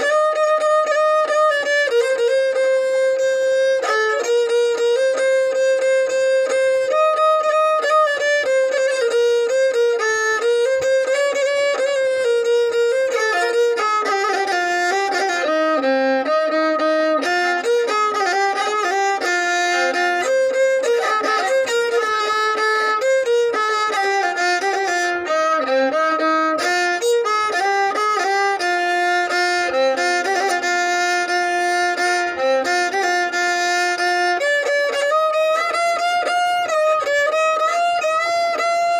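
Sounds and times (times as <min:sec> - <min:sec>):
solo violin melody: 0:00.0 - 0:38.9.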